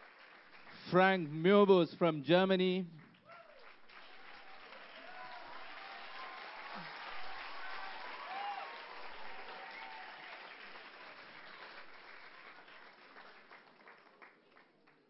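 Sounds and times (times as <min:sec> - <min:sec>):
audience applauding: 0:00.0 - 0:01.4, 0:03.0 - 0:15.0.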